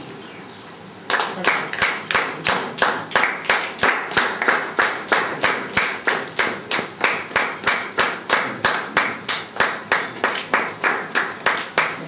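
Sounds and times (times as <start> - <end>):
people clapping in unison: 1.1 - 12.0.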